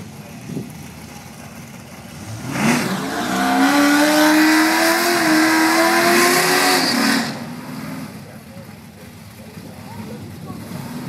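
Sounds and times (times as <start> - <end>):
drag racing engine revving: 0.0 - 9.1.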